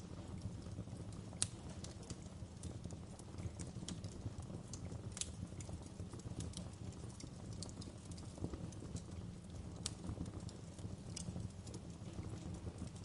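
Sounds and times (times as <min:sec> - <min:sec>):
fireplace crackling and popping: 0:00.0 - 0:13.0
low rumble of fire: 0:00.0 - 0:13.0.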